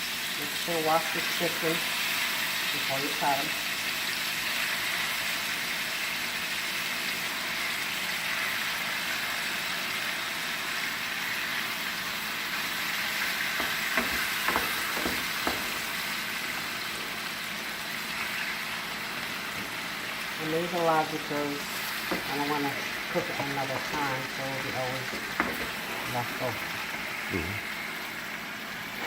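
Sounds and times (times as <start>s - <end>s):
chicken frying in hot oil: 0.0s - 29.0s.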